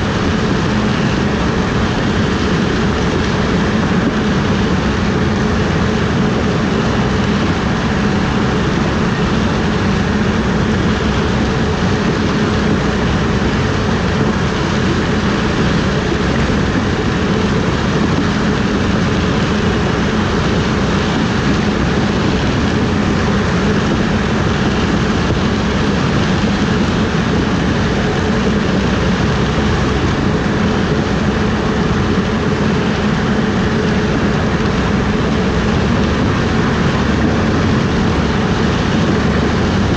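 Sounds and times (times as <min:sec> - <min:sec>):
harvest machinery droning: 0:00.0 - 0:39.9.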